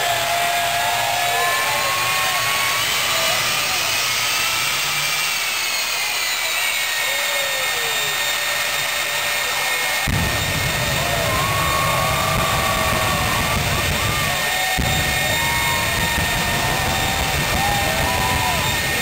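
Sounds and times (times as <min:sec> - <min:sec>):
jet engine roar and turbine whine: 0:00.0 - 0:19.0.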